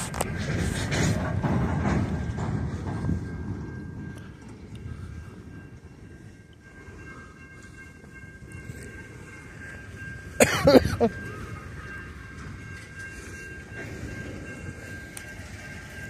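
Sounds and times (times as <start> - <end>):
train cars rolling on rails: 0.0 - 16.0.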